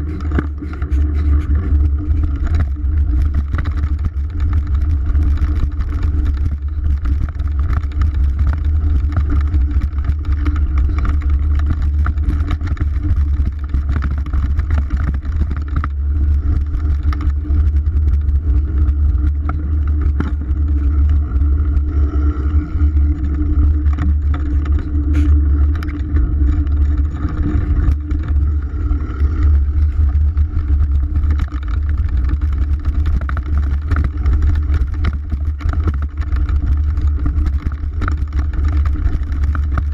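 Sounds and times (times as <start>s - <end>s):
bike rattling over bumps: 0.0s - 39.9s
wind noise on microphone: 0.0s - 39.9s.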